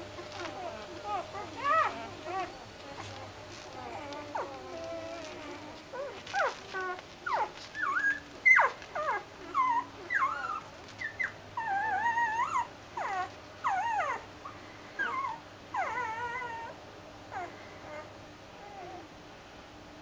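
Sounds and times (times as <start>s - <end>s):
puppies whining: 0.0s - 19.1s.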